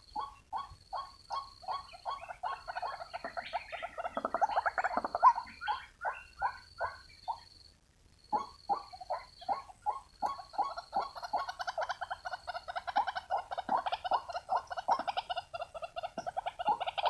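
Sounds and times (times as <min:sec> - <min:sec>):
waterhen calling: 0:00.0 - 0:07.5, 0:08.4 - 0:17.0.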